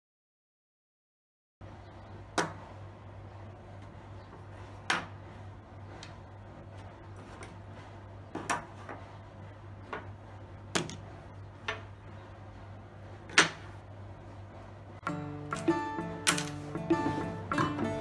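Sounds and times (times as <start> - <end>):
steady low hum: 1.6 - 18.0.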